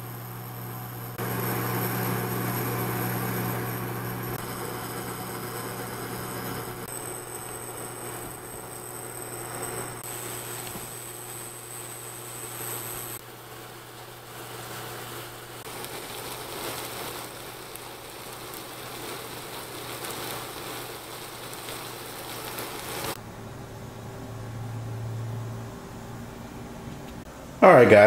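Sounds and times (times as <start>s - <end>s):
onions frying hiss: 0.0s - 23.2s
cooktop cooling fan humming: 0.0s - 28.0s.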